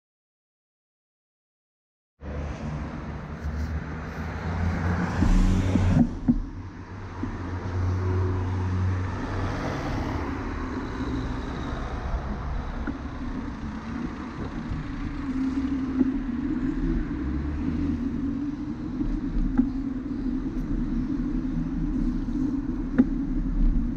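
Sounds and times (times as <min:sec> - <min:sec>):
traffic rumble of engines and tyres: 0:02.2 - 0:23.9.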